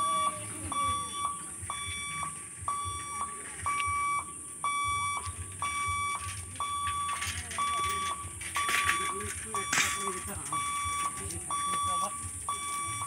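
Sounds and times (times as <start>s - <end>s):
level crossing alarm beeping: 0.0s - 13.0s.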